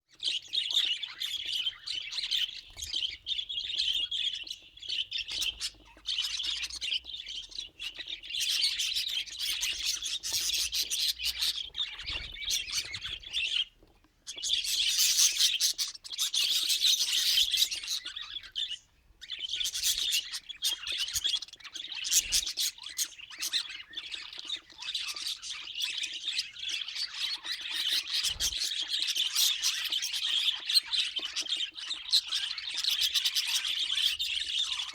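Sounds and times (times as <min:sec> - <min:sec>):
budgerigars chattering and chirping: 0:00.1 - 0:34.9.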